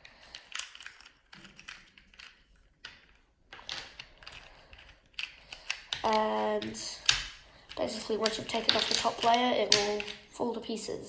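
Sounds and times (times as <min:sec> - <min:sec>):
plastic pieces clicking and clattering: 0:00.0 - 0:10.3.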